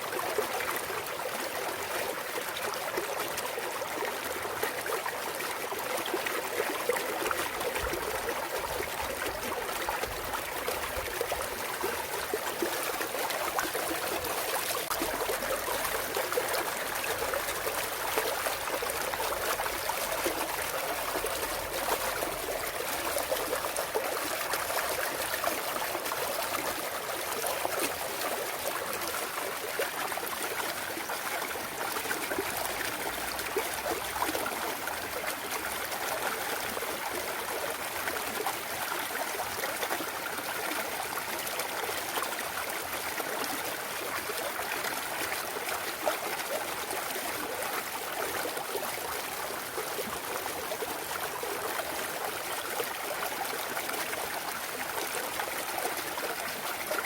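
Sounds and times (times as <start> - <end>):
stream burbling over rocks: 0.0 - 57.0.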